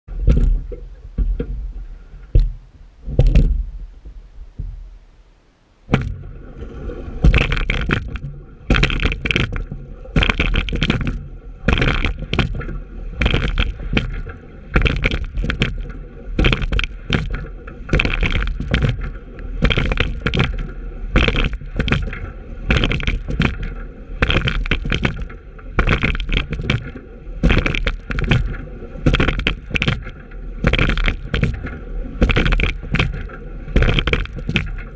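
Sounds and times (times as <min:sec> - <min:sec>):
oar blades splashing: 0:00.1 - 0:04.8, 0:05.9 - 0:34.9
oars clunking in oarlocks: 0:00.1 - 0:05.0, 0:05.8 - 0:34.9
water rushing along hull: 0:00.1 - 0:34.9.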